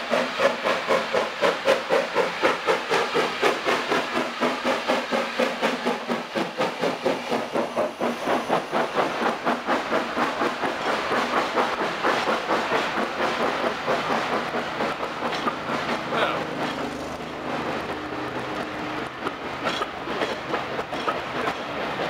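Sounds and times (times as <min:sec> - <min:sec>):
wheels clicking over rail joints: 0:02.2 - 0:22.0.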